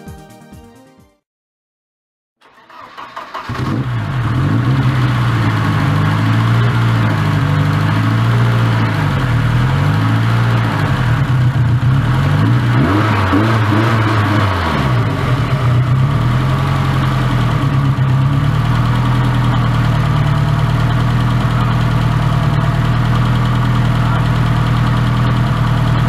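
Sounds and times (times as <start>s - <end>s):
car engine starting and revving: 2.4s - 26.0s.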